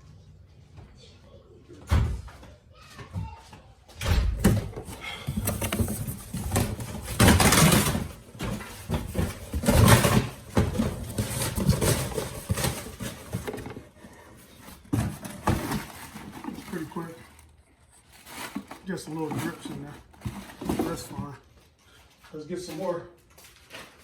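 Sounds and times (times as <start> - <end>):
handling knocks and scrapes: 4.4 - 24.0.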